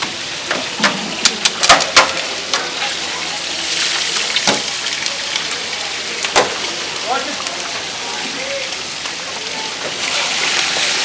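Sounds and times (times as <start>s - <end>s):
charcoal grill sizzling: 0.0s - 11.0s.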